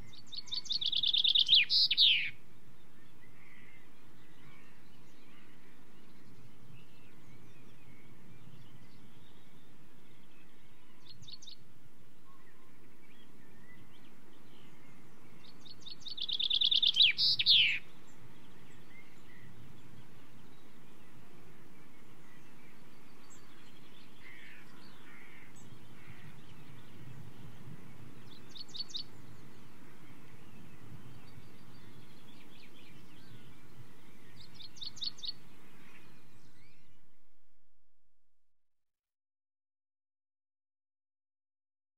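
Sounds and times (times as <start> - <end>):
chaffinch singing: 0.0 - 2.4, 4.7 - 37.1
low background noise: 0.0 - 38.4.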